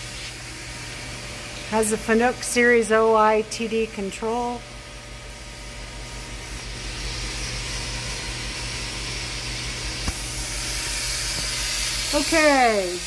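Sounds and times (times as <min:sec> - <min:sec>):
lathe running with steady hiss: 0:00.0 - 0:13.0
low electrical hum: 0:00.0 - 0:13.0.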